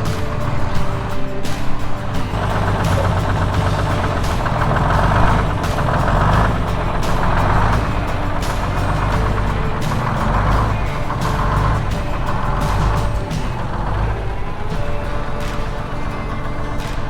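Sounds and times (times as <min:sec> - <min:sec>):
bus engine running: 0:00.0 - 0:17.0
music: 0:00.0 - 0:17.0.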